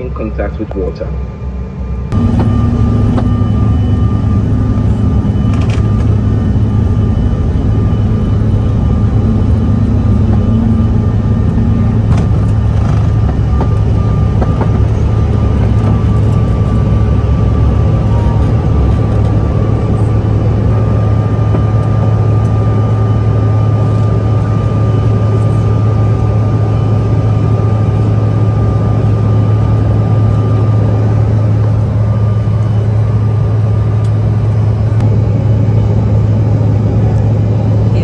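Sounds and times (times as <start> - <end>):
airliner engines droning: 0.0 - 38.0
thin steady whine: 0.0 - 38.0.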